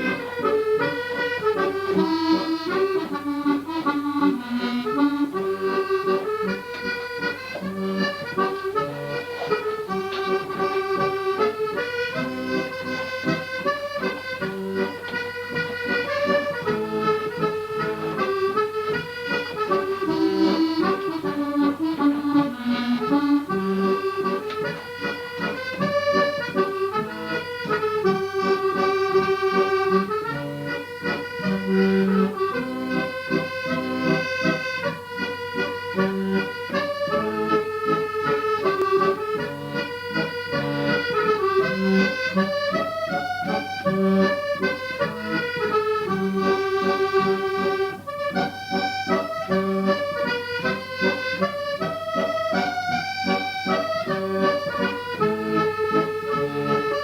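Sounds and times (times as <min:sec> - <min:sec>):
accordion playing a tune: 0:00.0 - 0:57.0.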